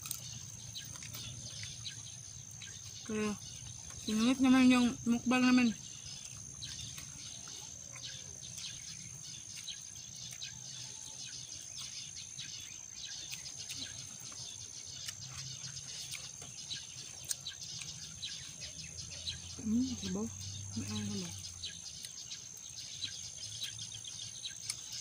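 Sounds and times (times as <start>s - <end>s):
faint ticks and chirps: 0.0s - 25.0s.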